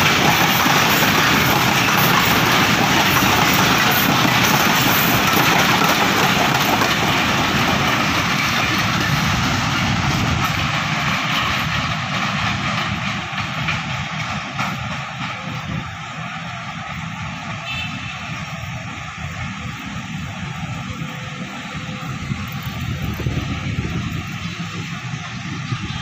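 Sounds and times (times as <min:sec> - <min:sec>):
train wagons rolling on rails: 0:00.0 - 0:26.0.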